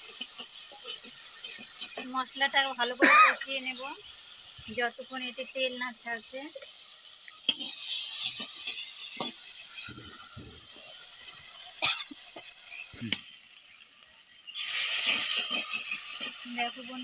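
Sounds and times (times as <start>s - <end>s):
paste sizzling in oil: 0.0s - 17.0s.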